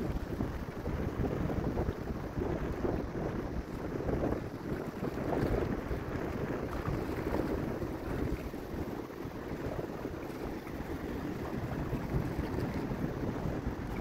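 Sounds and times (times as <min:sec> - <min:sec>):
small waves lapping: 0:00.0 - 0:14.0
wind buffeting microphone: 0:00.0 - 0:14.0.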